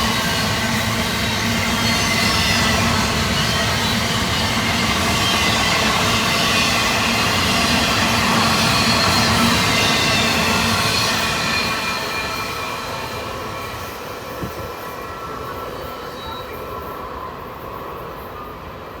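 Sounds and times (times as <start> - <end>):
freight train cars rolling on rails: 0.0 - 19.0.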